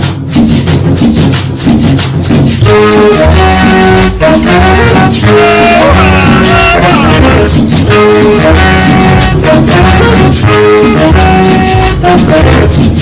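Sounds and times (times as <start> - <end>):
loud latin dance music: 0.0 - 13.0.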